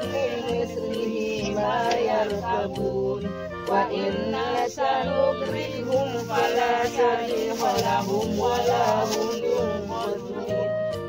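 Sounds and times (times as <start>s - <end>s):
background music with bass line: 0.0s - 11.0s
shaker rhythm: 0.0s - 11.0s.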